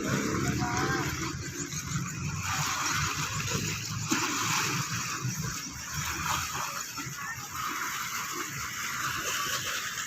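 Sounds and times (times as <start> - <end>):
boat engine running: 0.0 - 10.0
water washing: 0.0 - 10.0.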